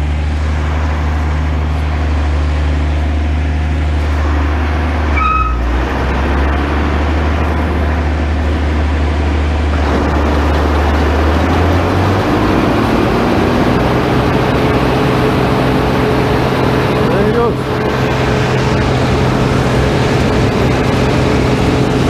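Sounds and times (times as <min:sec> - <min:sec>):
combine harvester engine droning: 0:00.0 - 0:22.0.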